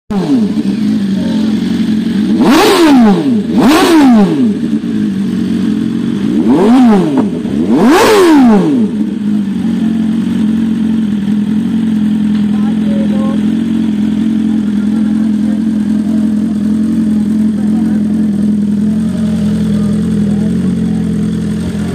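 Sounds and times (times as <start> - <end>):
motorcycle engine idling and revving: 0.1 - 21.9.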